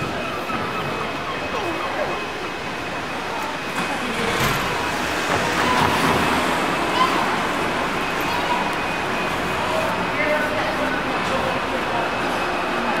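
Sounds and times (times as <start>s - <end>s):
passing cars: 2.5s - 13.0s.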